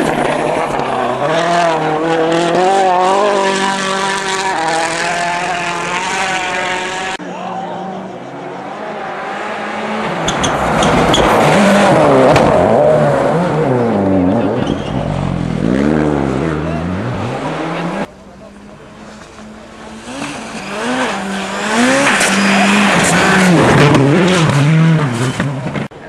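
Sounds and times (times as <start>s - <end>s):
rally car passing by: 0.0s - 25.9s
rally car engine revving: 0.0s - 26.0s.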